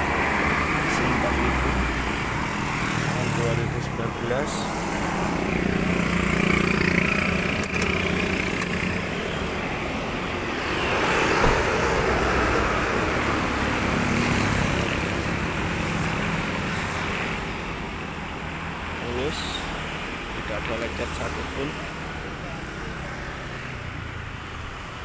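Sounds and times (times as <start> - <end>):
motor vehicles passing: 0.0 - 25.0.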